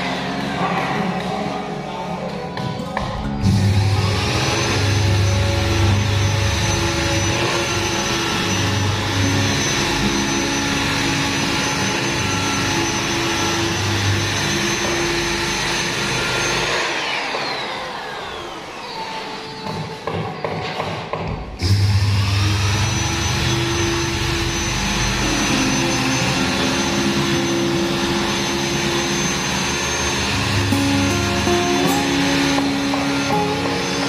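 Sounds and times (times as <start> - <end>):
drywall sander motor whine: 3.4 - 20.5, 21.6 - 34.0.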